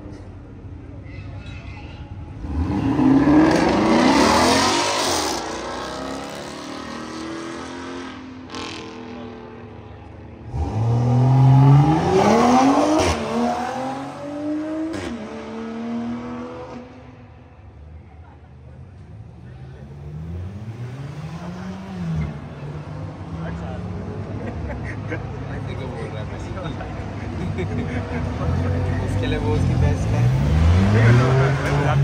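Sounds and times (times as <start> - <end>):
car engines revving: 2.1 - 32.0.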